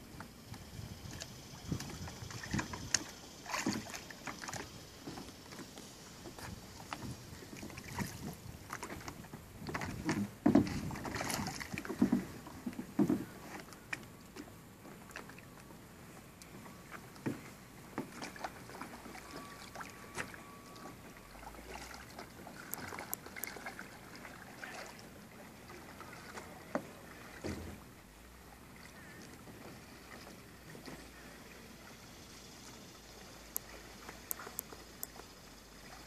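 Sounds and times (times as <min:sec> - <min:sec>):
paddle and hull knocks and splashes: 0:00.0 - 0:32.0.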